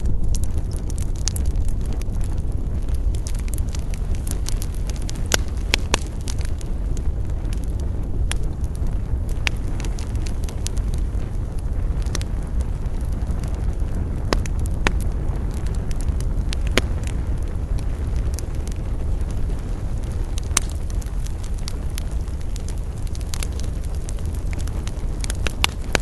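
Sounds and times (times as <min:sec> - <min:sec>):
burning wood crackling and popping: 0:00.0 - 0:26.0
campfire rumble: 0:00.0 - 0:26.0.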